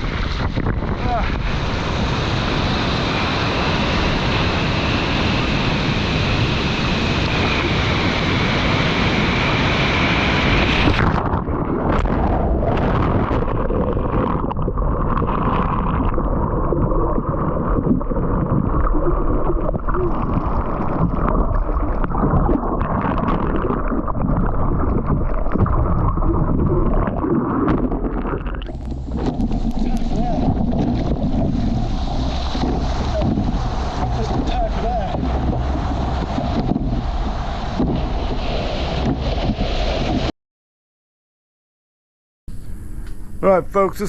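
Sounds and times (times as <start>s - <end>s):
breaking surf: 0.0s - 40.3s
underwater churning rumble: 0.0s - 40.3s
wind on microphone: 0.0s - 40.3s.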